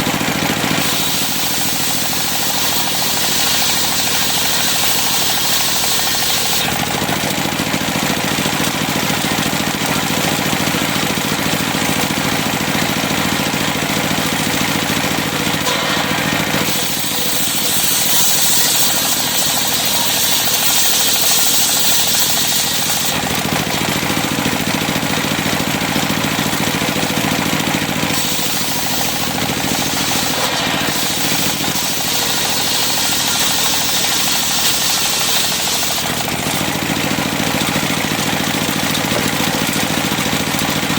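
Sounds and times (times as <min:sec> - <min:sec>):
circular saw cutting timber: 0:00.0 - 0:40.9.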